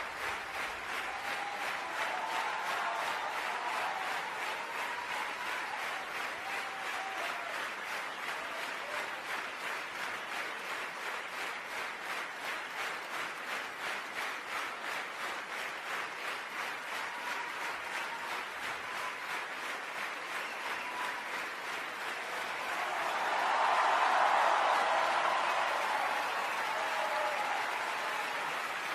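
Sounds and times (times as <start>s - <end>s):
audience applauding: 0.0s - 28.9s.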